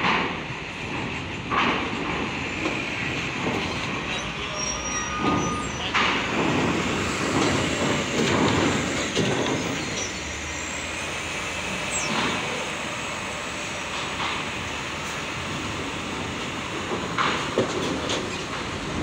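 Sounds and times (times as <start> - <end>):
truck diesel engines running: 0.0 - 19.0
wheels clanking over steel ramp: 0.0 - 19.0.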